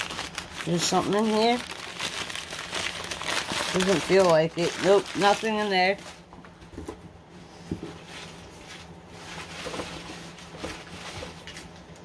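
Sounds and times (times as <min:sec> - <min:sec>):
newspaper rustling: 0:00.0 - 0:06.3, 0:08.0 - 0:11.8.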